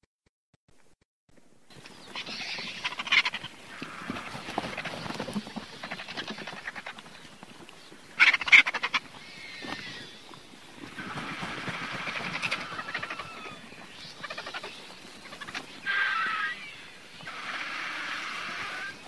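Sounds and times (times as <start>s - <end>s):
vultures hissing calls: 2.0s - 7.2s, 8.1s - 19.0s.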